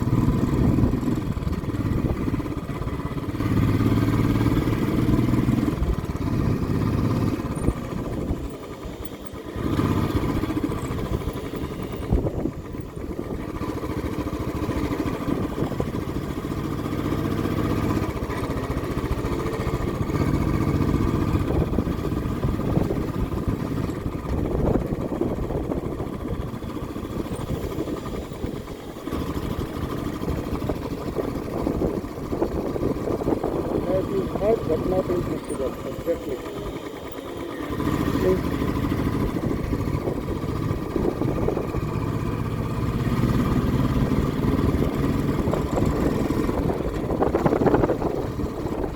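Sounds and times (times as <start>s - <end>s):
road noise: 0.0s - 48.9s
vehicle engine running: 0.0s - 48.9s.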